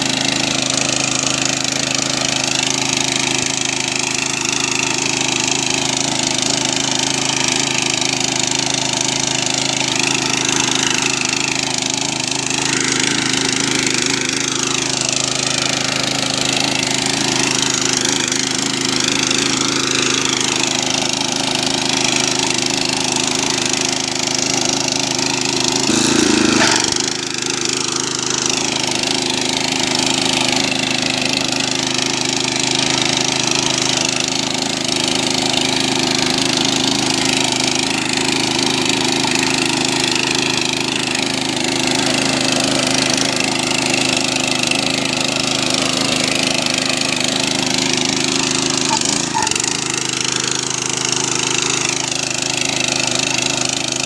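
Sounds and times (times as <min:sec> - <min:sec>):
tiller engine running under load: 0:00.0 - 0:54.0.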